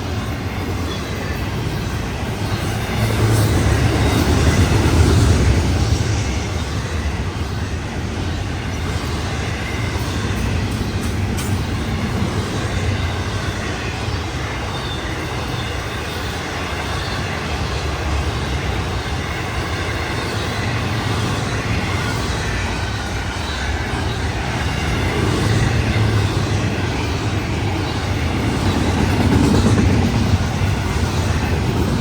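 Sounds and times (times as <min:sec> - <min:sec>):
freight train wheels rumbling on rail: 0:00.0 - 0:32.0.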